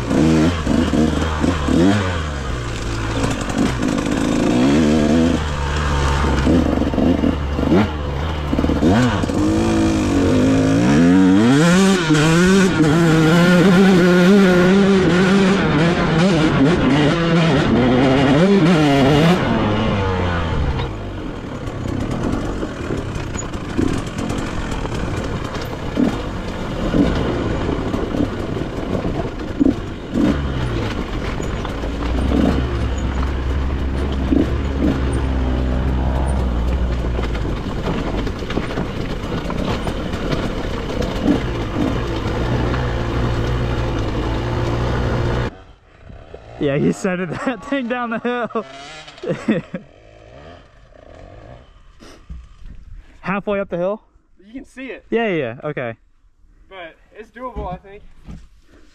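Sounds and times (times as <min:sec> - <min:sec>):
dirt bike engine revving: 0:00.0 - 0:52.6
clatter over rocky trail: 0:00.0 - 0:53.6, 0:56.8 - 0:58.9.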